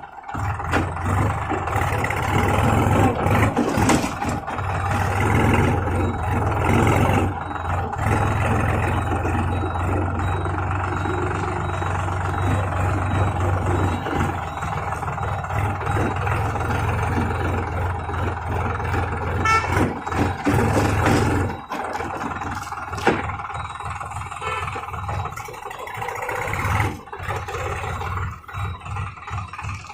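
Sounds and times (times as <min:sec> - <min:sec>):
diesel tractor engine running: 0:00.0 - 0:29.9.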